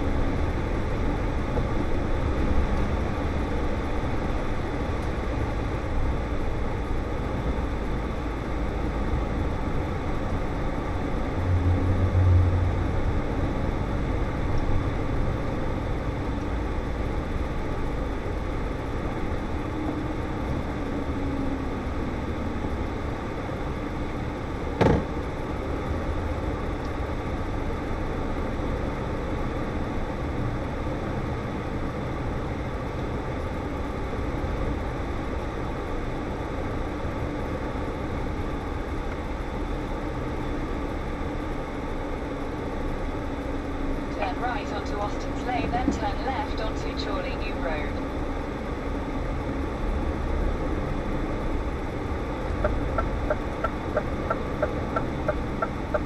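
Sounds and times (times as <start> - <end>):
low engine drone: 0.0 - 56.0
road noise: 0.0 - 56.0.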